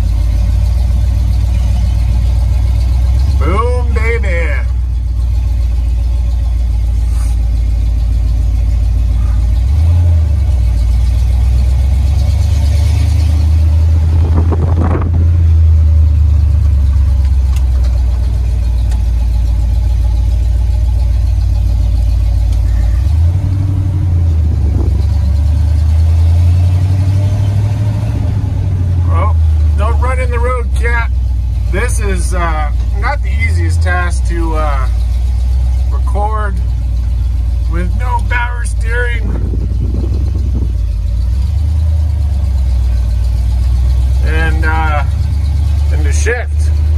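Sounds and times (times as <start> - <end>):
road noise: 0.0 - 46.9
truck engine drone: 0.0 - 46.9.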